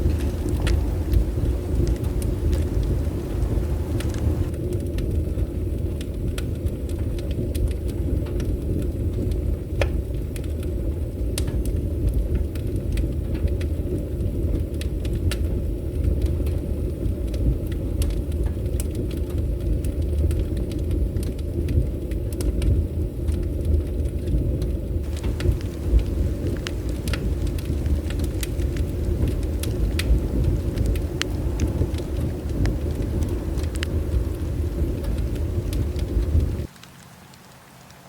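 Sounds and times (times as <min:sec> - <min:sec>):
fire low rumble: 0:00.0 - 0:37.9
wood crackling and popping: 0:00.0 - 0:38.0.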